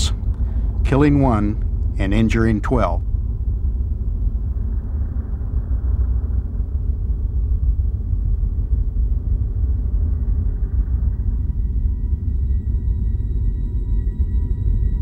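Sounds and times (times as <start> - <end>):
strong wind rumbling: 0.0 - 15.0.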